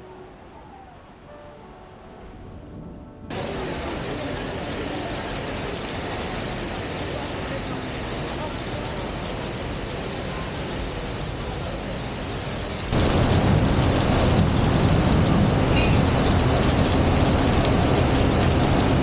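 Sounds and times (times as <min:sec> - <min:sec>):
heavy rain pouring: 0:03.3 - 0:19.0.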